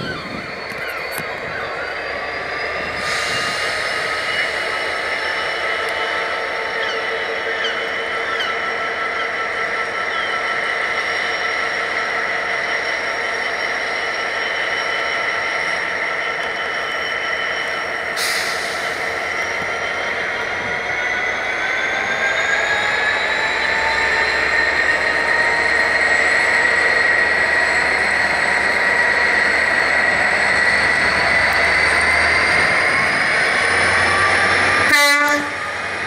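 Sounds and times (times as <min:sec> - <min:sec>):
diesel locomotive running: 0:00.0 - 0:36.0
high-pitched whining tones: 0:00.0 - 0:36.0.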